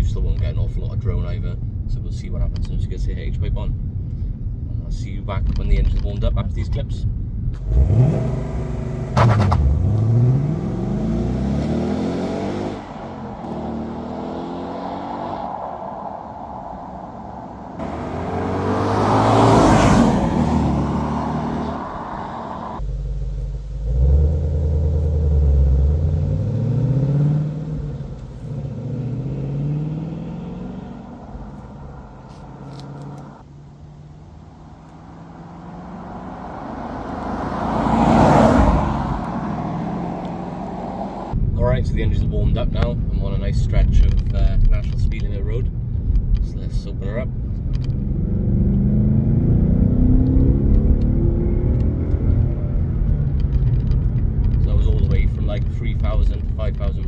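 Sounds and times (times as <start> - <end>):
car engine accelerating: 7.5 - 57.0.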